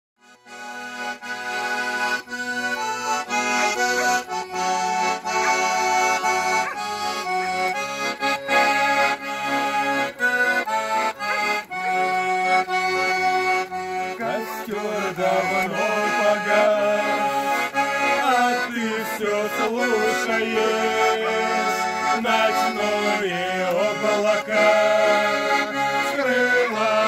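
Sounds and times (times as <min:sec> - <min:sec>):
button accordion playing: 0:00.2 - 0:27.0.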